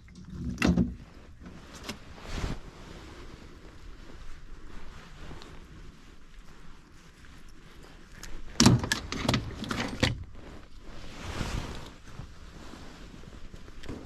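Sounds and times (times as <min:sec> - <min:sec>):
soft rush of noise: 0:01.0 - 0:08.6, 0:09.9 - 0:14.0.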